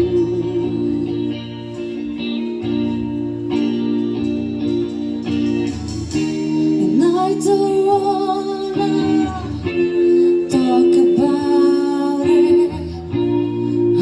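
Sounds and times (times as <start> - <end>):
person singing: 0.0 - 5.0, 6.6 - 14.0
strummed guitar chords: 0.0 - 14.0.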